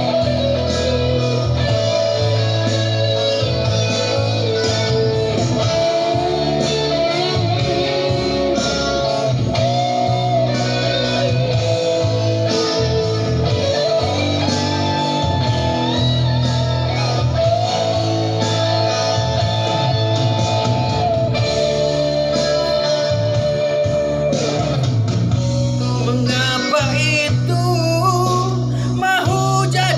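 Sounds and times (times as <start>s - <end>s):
bass line: 0.0s - 29.9s
electric guitar bending notes: 0.0s - 29.9s.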